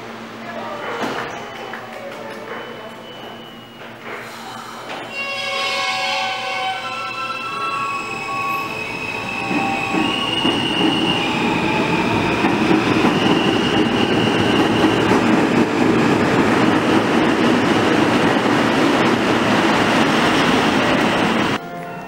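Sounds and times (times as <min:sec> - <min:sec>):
subway train pulling out: 0:00.0 - 0:22.0.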